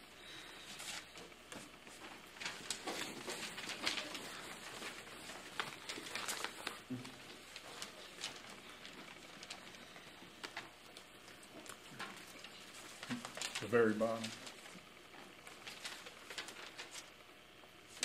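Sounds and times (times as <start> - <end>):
steady hiss: 0.0 - 18.0
soft clicks and rustles: 0.7 - 17.2.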